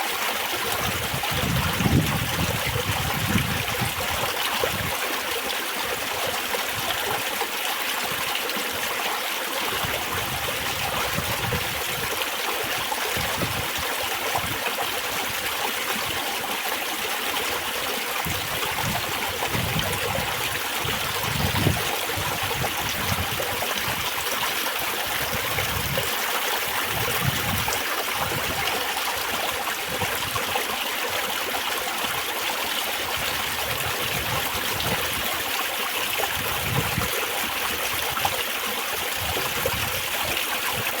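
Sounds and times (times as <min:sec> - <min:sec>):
low water gurgle: 0:00.0 - 0:41.0
spring water trickling and babbling: 0:00.0 - 0:41.0.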